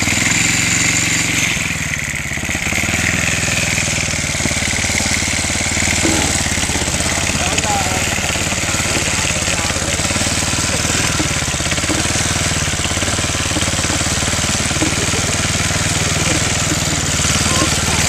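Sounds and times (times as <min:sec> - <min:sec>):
small tractor engine chugging: 0:00.0 - 0:18.0.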